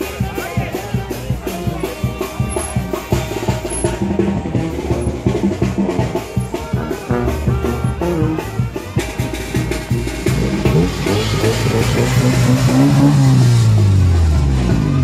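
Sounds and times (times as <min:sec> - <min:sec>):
music with drums: 0:00.0 - 0:15.0.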